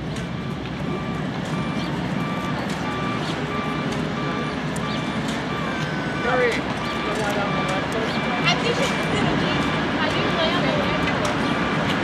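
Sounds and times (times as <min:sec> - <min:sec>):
reversing alarm beeping: 0:00.0 - 0:12.0.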